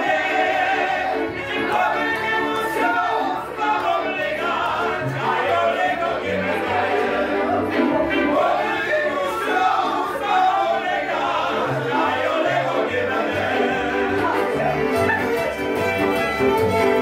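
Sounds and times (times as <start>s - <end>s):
string band playing: 0.0s - 17.0s
voices singing along: 0.0s - 17.0s.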